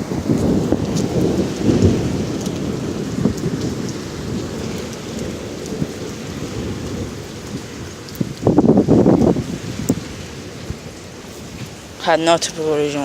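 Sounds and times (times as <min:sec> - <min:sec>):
heavy rain pouring: 0:00.0 - 0:13.0
low thunder rumble: 0:00.0 - 0:13.0.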